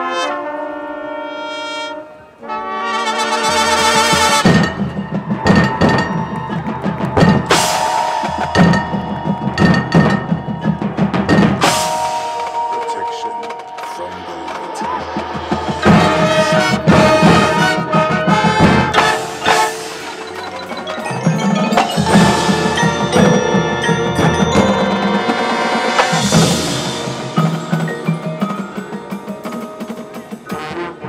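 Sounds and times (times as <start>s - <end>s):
marching band playing: 0.0s - 31.0s
mallet percussion: 3.7s - 30.9s.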